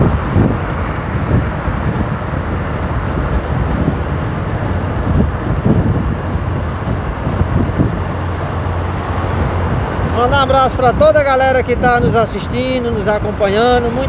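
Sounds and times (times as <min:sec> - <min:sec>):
motorcycle engine hum: 0:00.0 - 0:14.0
road noise: 0:00.0 - 0:14.0
wind rushing over microphone: 0:00.0 - 0:14.0.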